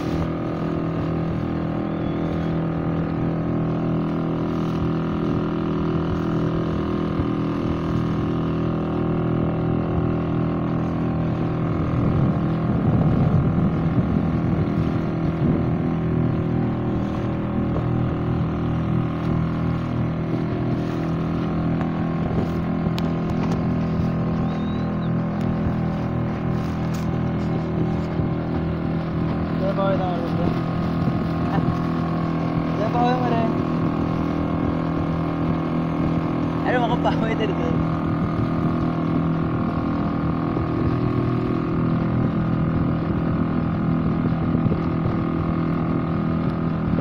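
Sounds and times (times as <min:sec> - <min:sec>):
small boat engine running: 0:00.0 - 0:47.0.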